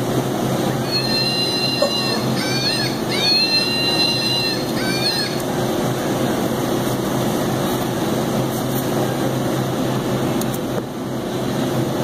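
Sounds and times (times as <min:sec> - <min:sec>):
cooler fans rushing air: 0:00.0 - 0:12.0
refrigeration unit hum: 0:00.0 - 0:12.0.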